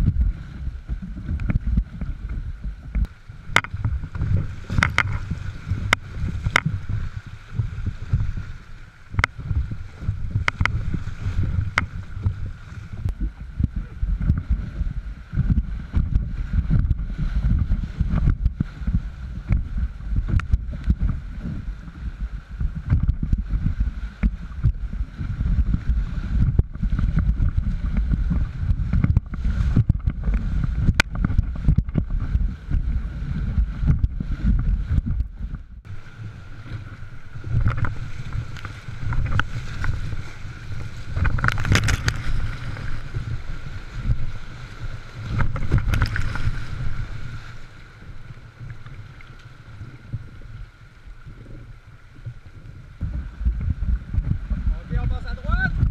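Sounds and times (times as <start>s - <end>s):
rapids rushing low rumble: 0.0s - 55.9s.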